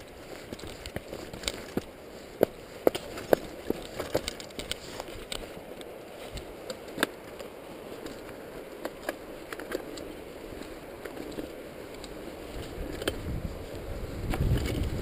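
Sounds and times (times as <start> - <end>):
bike rattling over bumps: 0.0 - 15.0
bike tyres rushing on dirt: 0.0 - 15.0.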